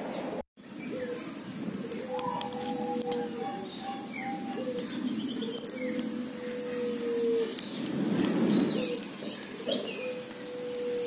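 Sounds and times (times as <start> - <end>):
birds chirping: 0.0 - 11.0
wire winding rustling and ticks: 0.7 - 11.0.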